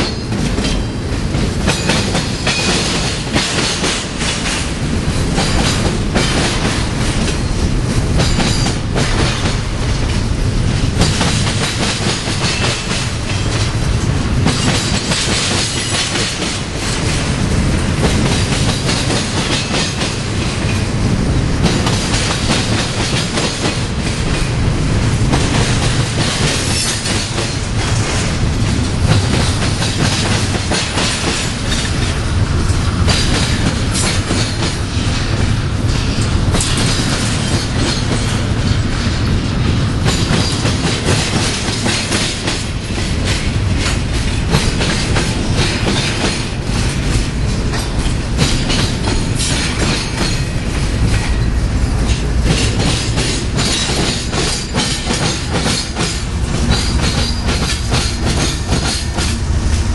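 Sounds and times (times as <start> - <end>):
clickety-clack of wheels on rail: 0.0 - 59.9
freight train rumbling: 0.0 - 59.9.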